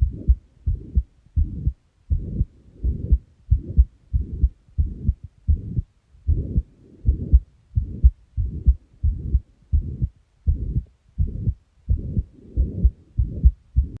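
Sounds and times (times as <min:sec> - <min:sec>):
heart murmur whoosh: 0:00.0 - 0:14.0
heartbeat thuds: 0:00.0 - 0:14.0.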